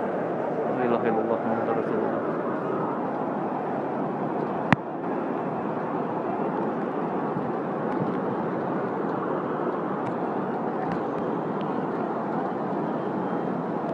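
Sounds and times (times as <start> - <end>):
crowd noise in rain: 0.0 - 13.9.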